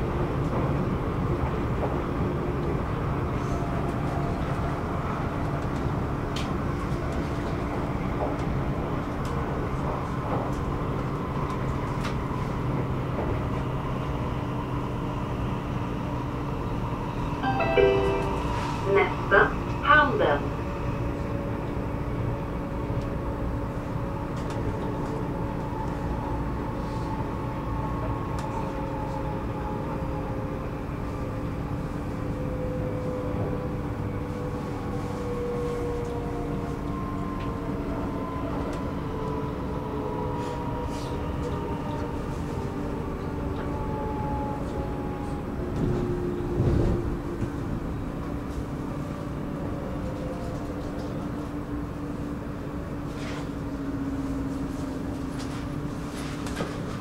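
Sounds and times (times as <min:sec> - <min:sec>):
electric train rumbling on rails: 0:00.0 - 0:57.0.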